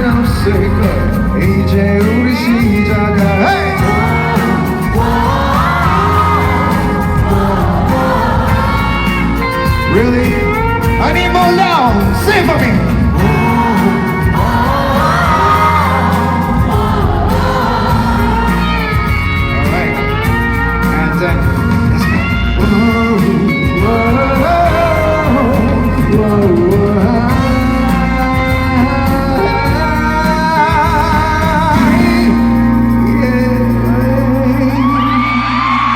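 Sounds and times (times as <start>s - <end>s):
person singing: 0.0s - 11.1s, 11.8s - 20.0s, 22.0s - 35.9s
live band playing pop song: 0.0s - 35.9s.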